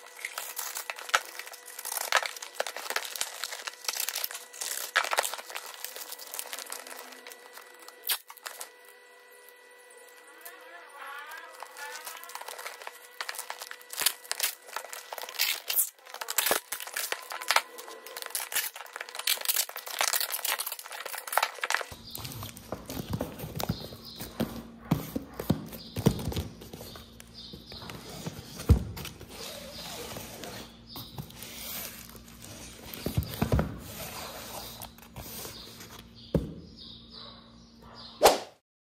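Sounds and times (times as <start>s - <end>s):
packing tape: 0.0s - 10.6s, 11.2s - 24.5s, 25.3s - 36.0s.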